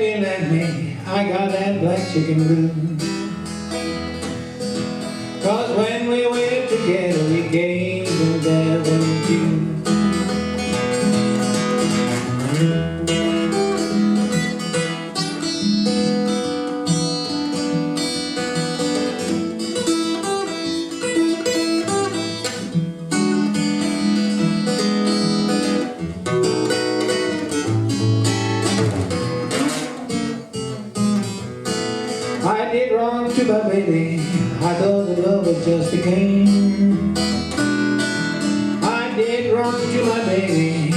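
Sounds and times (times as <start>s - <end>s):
acoustic guitar blues: 0.0s - 40.9s.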